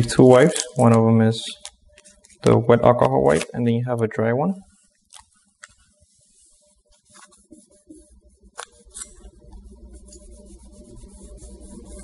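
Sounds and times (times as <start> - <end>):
wipe rubbing back and forth: 0.0 - 3.6, 4.6 - 12.0.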